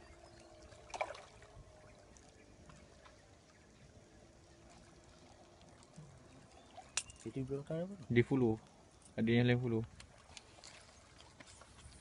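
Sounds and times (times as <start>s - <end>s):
faint water lapping rocks: 0.0s - 12.0s.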